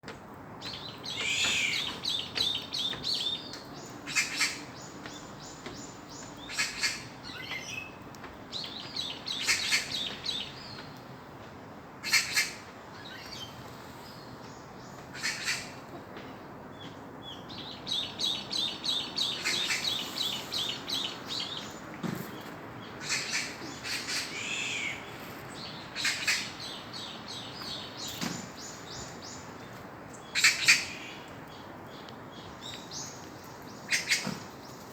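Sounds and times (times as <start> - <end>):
songbirds trilling: 0.6 - 11.1, 12.0 - 34.9.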